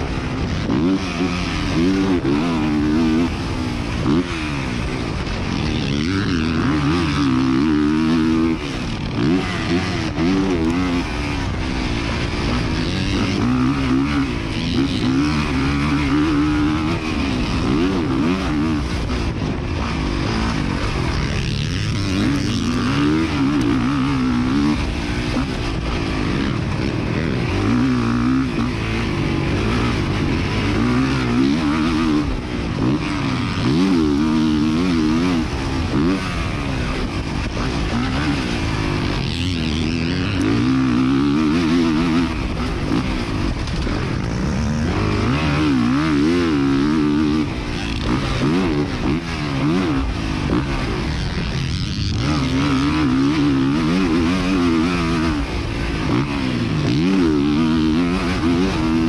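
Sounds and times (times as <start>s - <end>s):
dirt bike engine revving: 0.0s - 59.0s
steady rushing noise: 0.0s - 59.0s.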